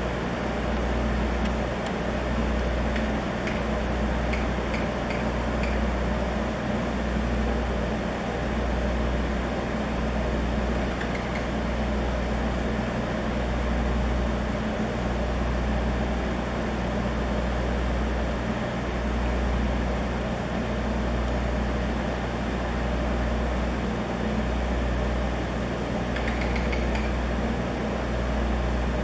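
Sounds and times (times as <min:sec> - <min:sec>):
ship diesel engine drone: 0:00.0 - 0:29.0.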